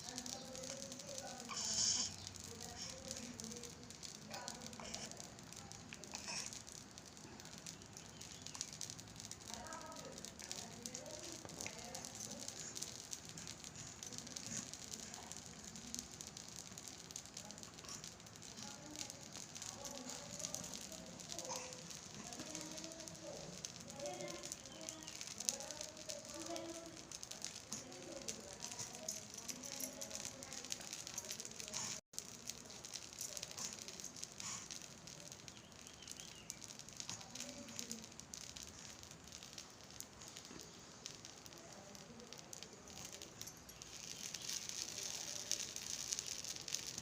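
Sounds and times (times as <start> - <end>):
smouldering fire crackling: 0.0 - 47.0.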